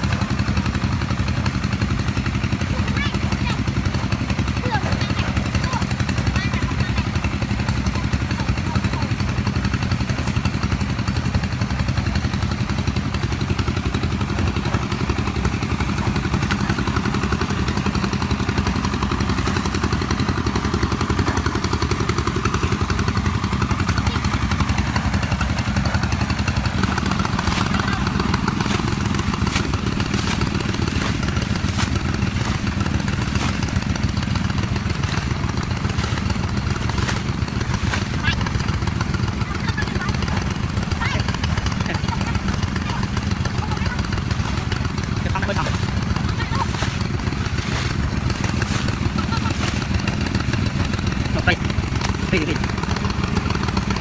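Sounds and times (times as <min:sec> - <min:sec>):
engine droning steadily: 0:00.0 - 0:54.0.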